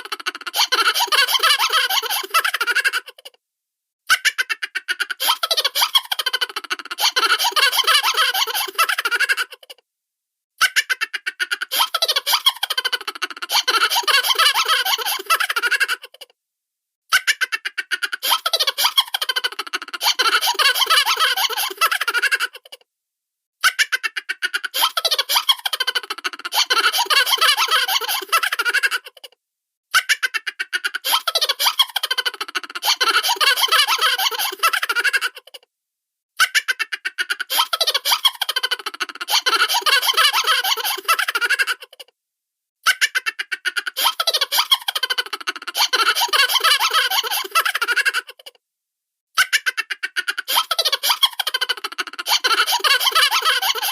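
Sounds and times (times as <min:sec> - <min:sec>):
cartoon laughter: 0:00.0 - 0:03.4, 0:04.1 - 0:09.8, 0:10.6 - 0:16.3, 0:17.1 - 0:22.8, 0:23.6 - 0:35.6, 0:36.4 - 0:42.1, 0:42.8 - 0:48.6, 0:49.4 - 0:53.9.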